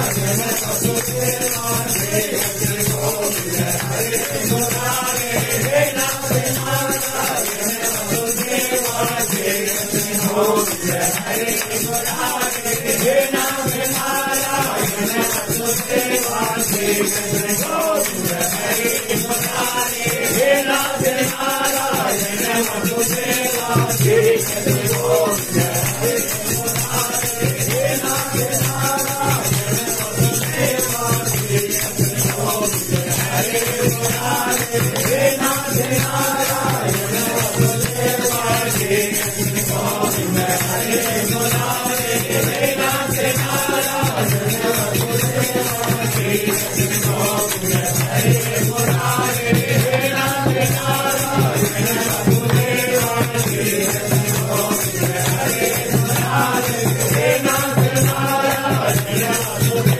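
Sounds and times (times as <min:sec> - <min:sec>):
rapid jingling percussion: 0:00.0 - 0:59.9.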